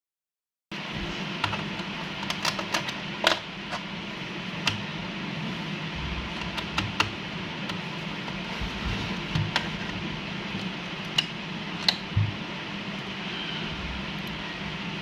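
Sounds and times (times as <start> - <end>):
steady low hum: 0.7 - 15.0.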